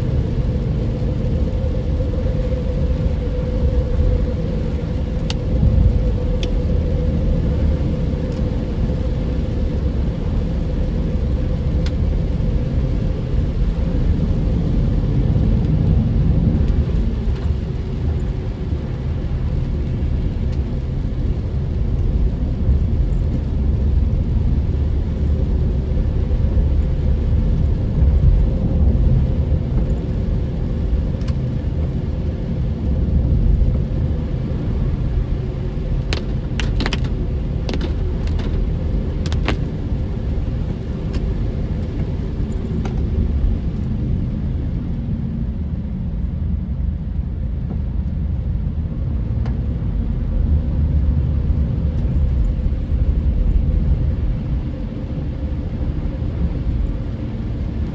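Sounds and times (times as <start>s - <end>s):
car driving on wet road: 0.0s - 57.9s.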